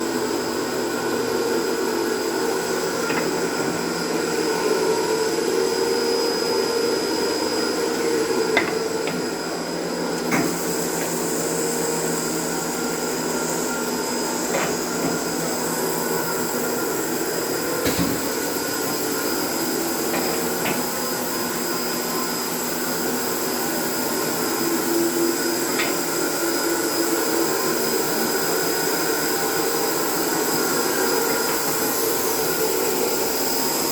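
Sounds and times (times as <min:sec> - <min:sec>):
sanding machine whirring hum: 0:00.0 - 0:33.9.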